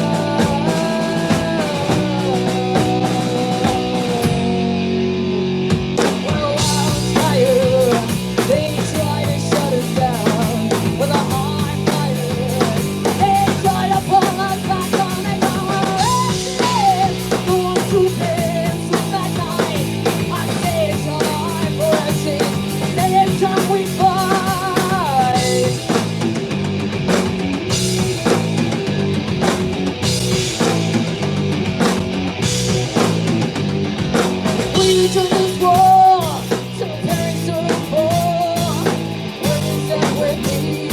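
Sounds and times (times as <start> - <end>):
bending lead guitar melody: 0.0 - 40.9
rock band playing live: 0.0 - 40.9.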